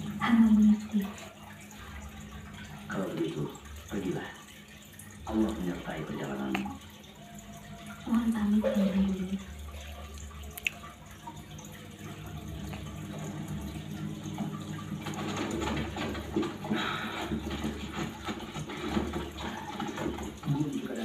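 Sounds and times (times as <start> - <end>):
low steady hum: 0.0 - 18.1
trickling water: 0.0 - 21.0.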